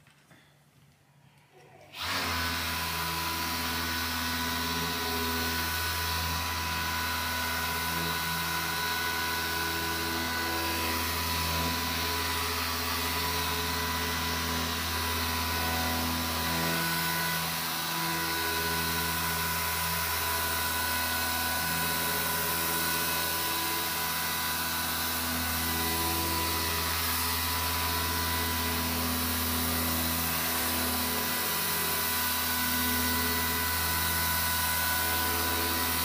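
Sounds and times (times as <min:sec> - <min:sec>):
orbital sander whining: 0:02.0 - 0:36.0.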